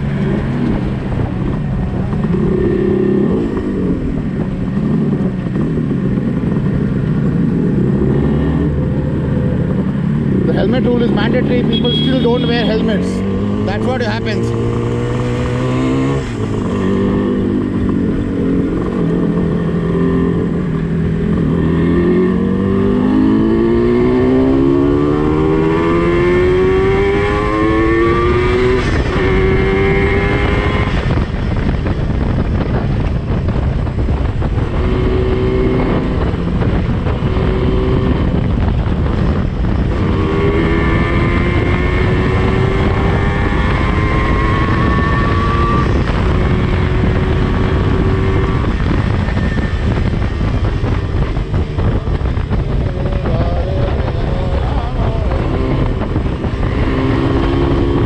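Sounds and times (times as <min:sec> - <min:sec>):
wind rush: 0:00.0 - 0:11.6, 0:12.5 - 0:58.0
motorcycle engine revving: 0:00.0 - 0:58.0.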